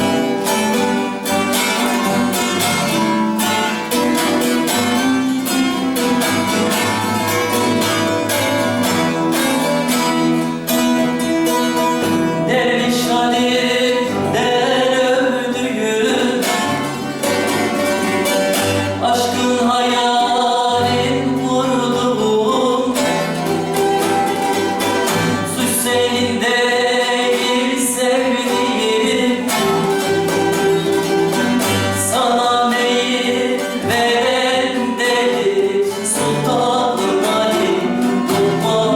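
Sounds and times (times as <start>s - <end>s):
person singing: 0.0s - 38.9s
plucked string instruments: 0.0s - 38.9s.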